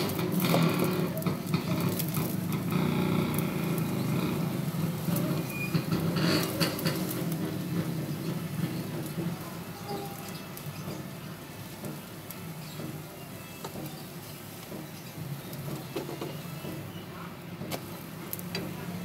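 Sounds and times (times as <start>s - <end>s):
bread sizzling in oil: 0.0s - 19.0s.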